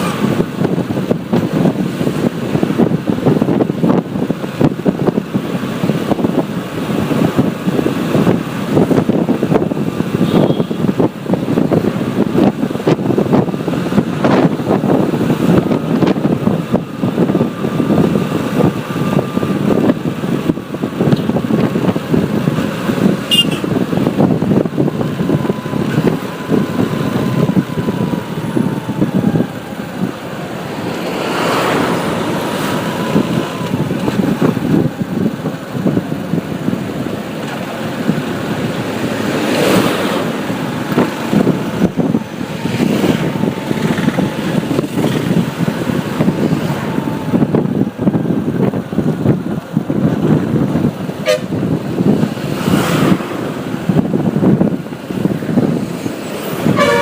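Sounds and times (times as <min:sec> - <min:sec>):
rumble of vehicles: 0:00.0 - 0:57.0
wind buffeting microphone: 0:00.0 - 0:57.0.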